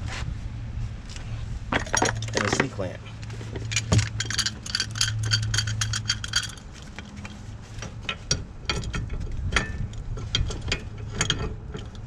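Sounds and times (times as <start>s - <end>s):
metallic clinks and rattles: 1.7s - 12.0s.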